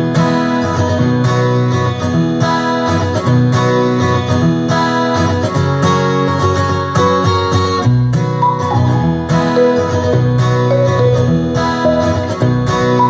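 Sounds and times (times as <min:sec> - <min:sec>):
guitar music through speaker: 0:00.0 - 0:13.0.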